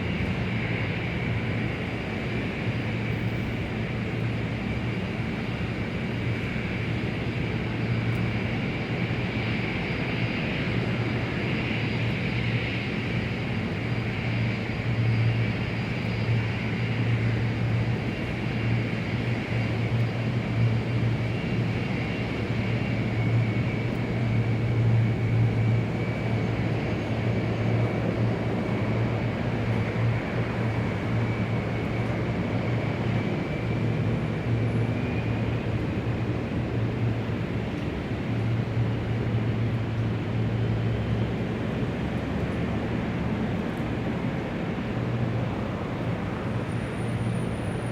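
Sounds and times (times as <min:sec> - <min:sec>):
jet engines droning: 0:00.0 - 0:47.9.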